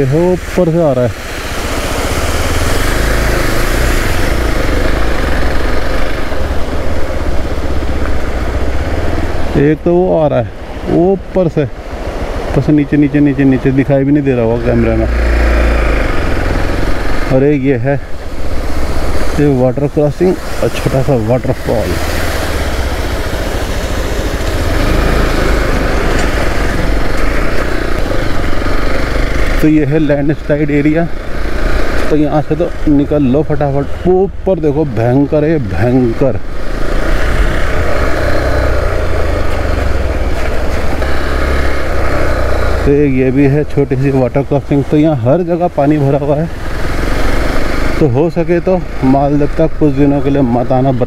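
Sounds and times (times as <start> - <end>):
rushing water: 0.0 - 51.0
motorcycle engine running: 1.2 - 9.7, 14.5 - 34.2, 35.3 - 51.0.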